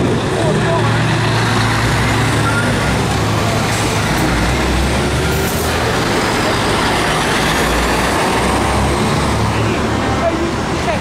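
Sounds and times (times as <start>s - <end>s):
heavy truck diesel engines: 0.0s - 11.0s.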